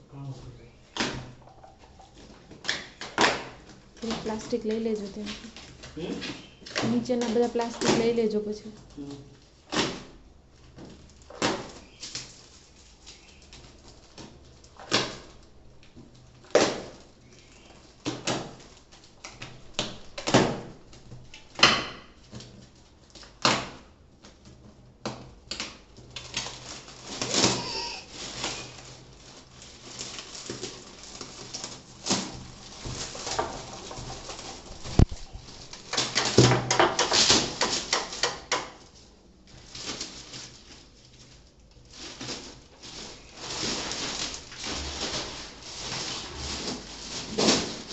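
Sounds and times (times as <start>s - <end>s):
plastic wrapping crackling: 0.2s - 47.9s.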